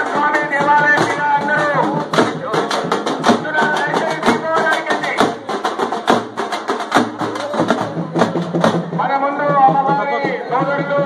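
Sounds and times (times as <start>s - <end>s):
crowd voices: 0.0s - 11.0s
procession drums beating: 0.0s - 11.0s.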